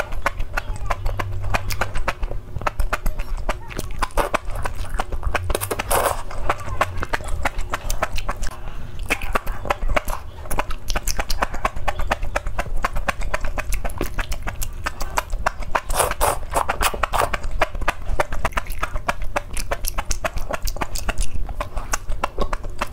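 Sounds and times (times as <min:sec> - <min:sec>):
wet crunching and chewing: 0:00.0 - 0:22.9
slurping: 0:00.9 - 0:22.9.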